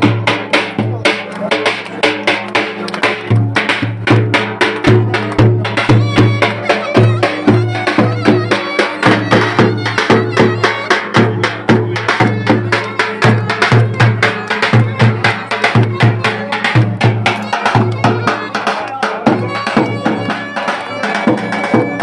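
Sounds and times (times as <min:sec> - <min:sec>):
drum beating fast rhythm: 0:00.0 - 0:22.0
sustained melody instrument: 0:01.9 - 0:22.0.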